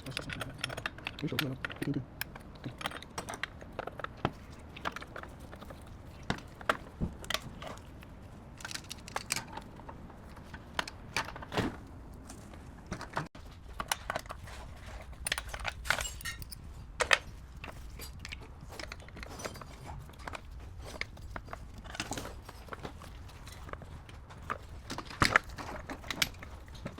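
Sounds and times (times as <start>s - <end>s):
hand tools clicking and clinking: 0.0s - 11.5s, 12.2s - 26.9s.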